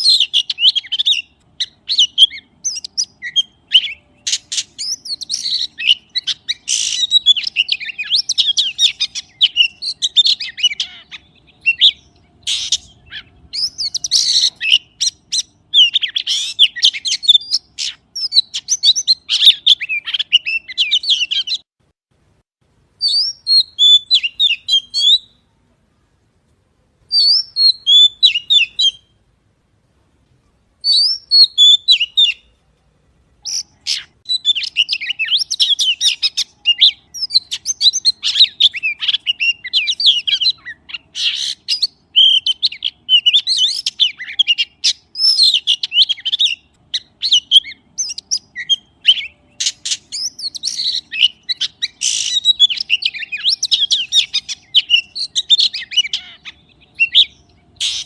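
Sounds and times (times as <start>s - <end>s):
magpie chirping: 0.0s - 21.6s, 23.0s - 25.4s, 27.1s - 29.1s, 30.8s - 32.5s, 33.4s - 58.0s.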